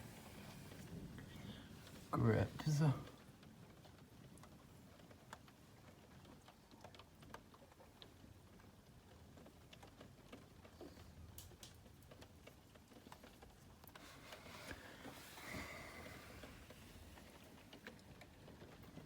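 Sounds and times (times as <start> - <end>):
rain patter and drips: 0.0 - 19.0.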